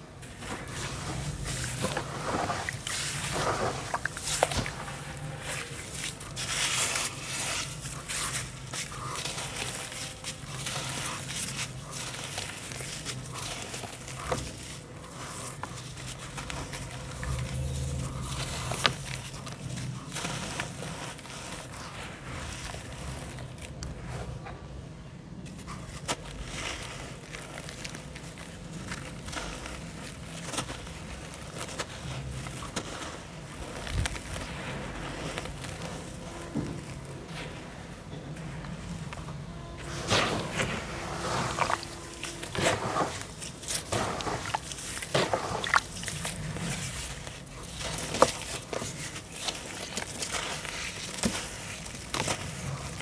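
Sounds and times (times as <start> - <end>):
sand clumps crunching: 0.2 - 24.4, 25.7 - 53.0.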